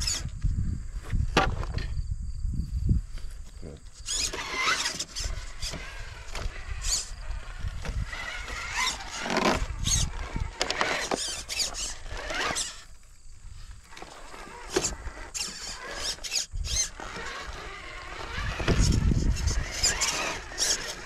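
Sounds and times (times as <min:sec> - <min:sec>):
electric motor whine: 0:03.5 - 0:21.0.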